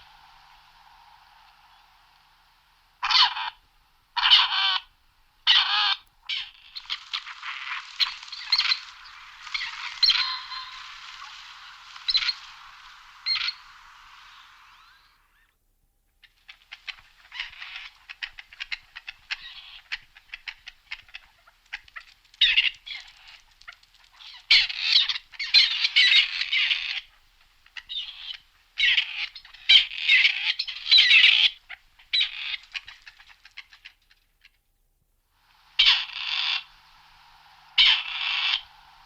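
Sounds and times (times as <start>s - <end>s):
partridge calling: 3.0s - 3.6s, 4.2s - 15.5s, 16.2s - 34.6s, 35.7s - 39.0s.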